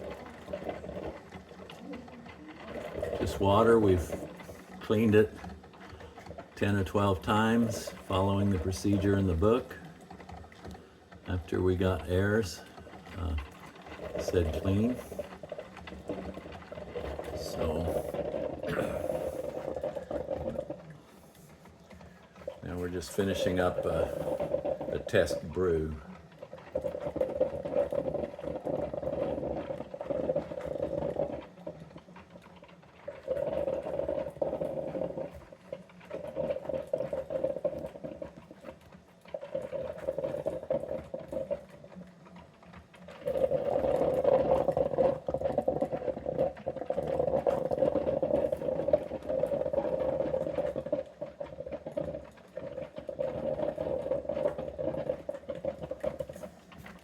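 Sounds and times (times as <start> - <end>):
coffee maker buzzing hum: 0.0 - 57.0
crackling gurgles: 0.0 - 57.0.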